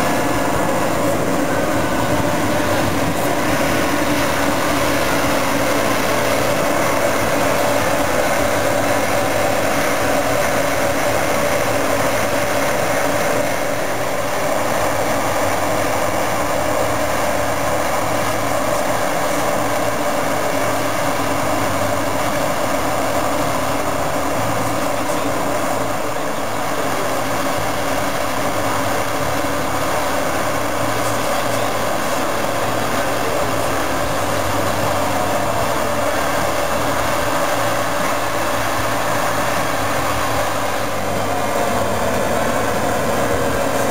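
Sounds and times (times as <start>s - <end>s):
combine harvester machinery drone: 0.0s - 43.9s
tractor running: 0.0s - 43.9s.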